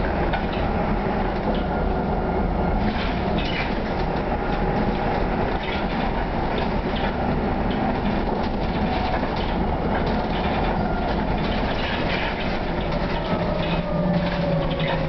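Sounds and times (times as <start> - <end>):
bus engine and road noise: 0.0 - 15.0
interior fittings rattling: 2.9 - 15.0.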